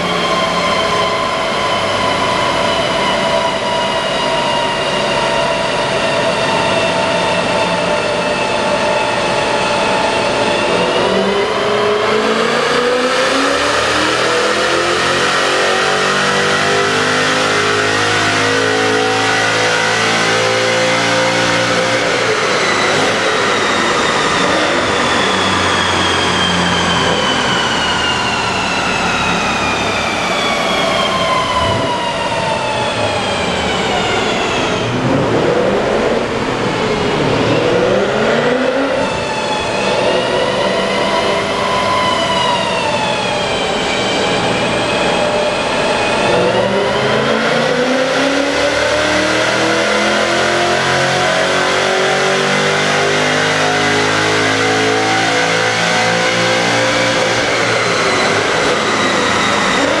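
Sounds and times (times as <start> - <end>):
car engine revving on dynamometer: 0.0 - 60.0.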